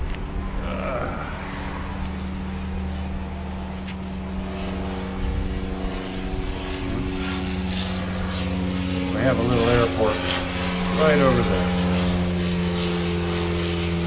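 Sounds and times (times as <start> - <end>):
propeller airplane engine hum: 0.0 - 14.0.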